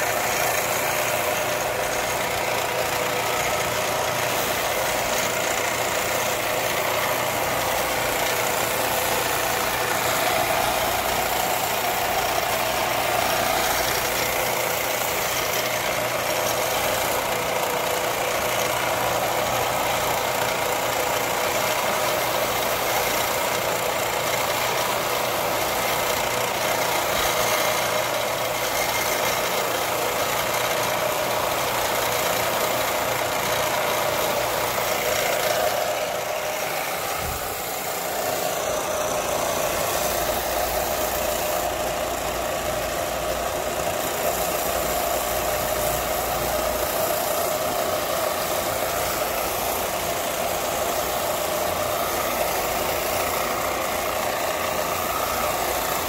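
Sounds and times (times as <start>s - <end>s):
electric grinder whirring: 0.0s - 56.0s.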